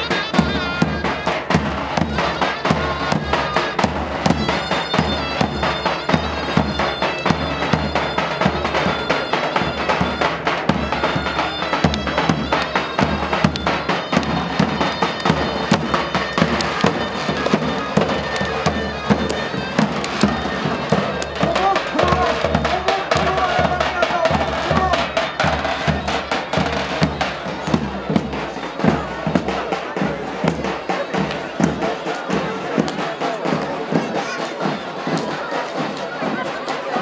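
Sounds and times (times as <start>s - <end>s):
reed pipe melody: 0.0s - 37.0s.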